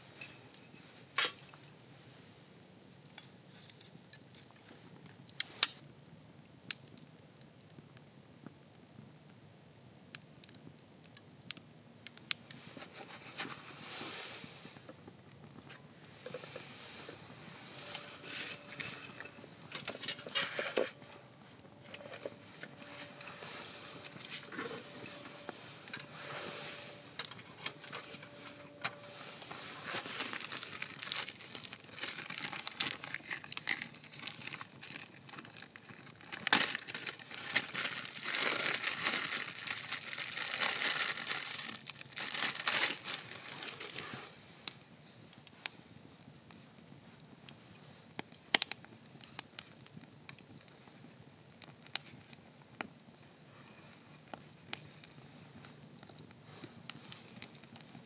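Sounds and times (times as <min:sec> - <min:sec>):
crinkling and rustling handling: 0:00.0 - 0:05.8, 0:12.1 - 0:58.0.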